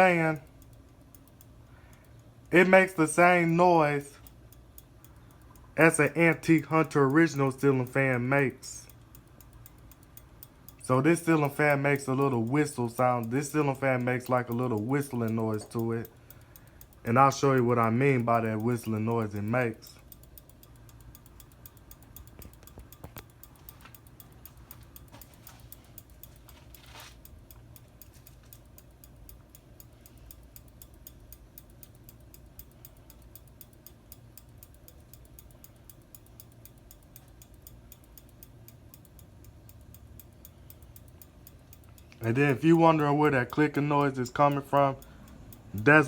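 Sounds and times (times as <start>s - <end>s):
ceiling fan hum: 0.0s - 46.0s
pull chain ticking on bulb: 0.0s - 46.0s.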